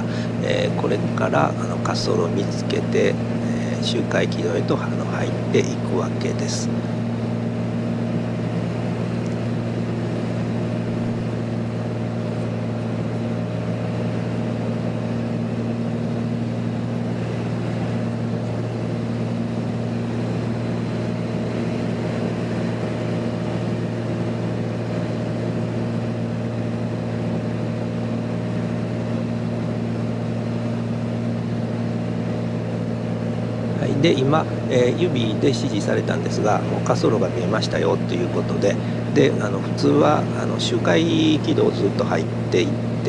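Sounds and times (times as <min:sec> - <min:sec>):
aircraft engine and propeller droning: 0:00.0 - 0:43.0.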